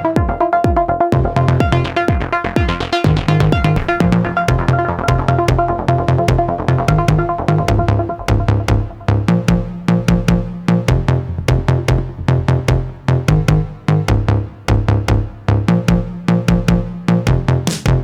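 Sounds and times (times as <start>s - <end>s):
techno electronic music: 0.0s - 18.0s.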